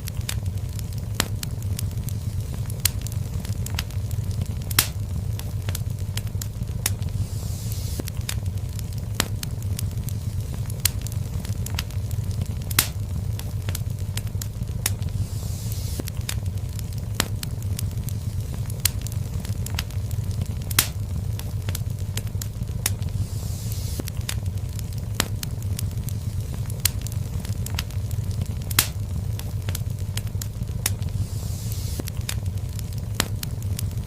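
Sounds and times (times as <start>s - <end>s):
fire crackling and popping: 0.0s - 34.0s
low rumble: 0.0s - 34.0s
soft hiss: 0.0s - 34.0s.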